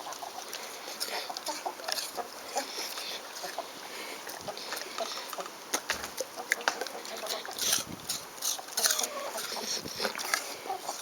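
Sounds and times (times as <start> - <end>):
dog chewing wetly: 0.0 - 11.0.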